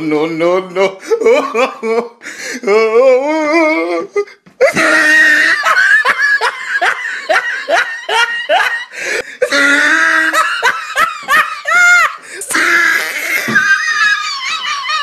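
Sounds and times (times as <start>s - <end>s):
person laughing hard: 1.0s - 2.8s, 3.7s - 15.0s.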